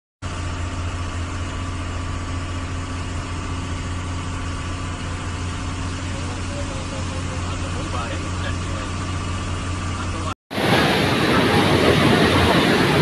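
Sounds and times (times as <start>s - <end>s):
road noise: 0.2s - 13.0s
vehicle engine humming: 0.2s - 13.0s.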